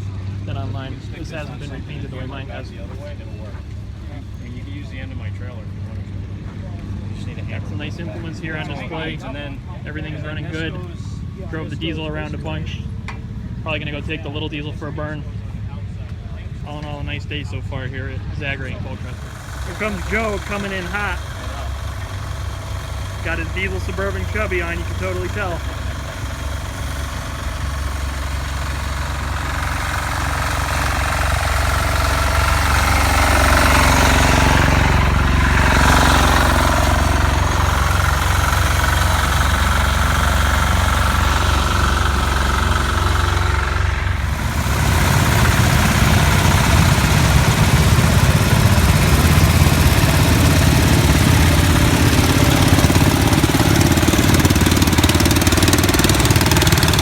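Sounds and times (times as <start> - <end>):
small diesel engine knocking: 0.0 - 15.4, 16.1 - 57.0.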